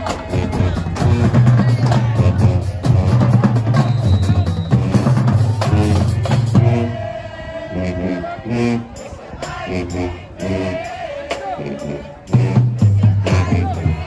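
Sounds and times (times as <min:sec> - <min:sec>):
bass and snare drums: 0:00.0 - 0:07.0, 0:09.0 - 0:14.0
low brass bass line: 0:00.0 - 0:14.0
marching band playing: 0:00.0 - 0:14.0.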